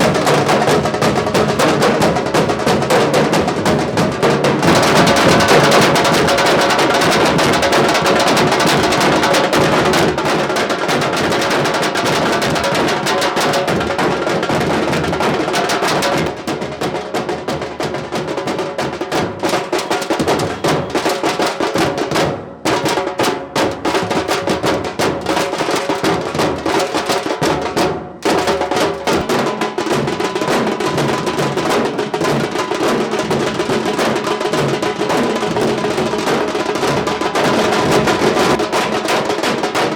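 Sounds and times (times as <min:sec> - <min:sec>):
dhol drums fast rhythm: 0:00.0 - 0:39.9.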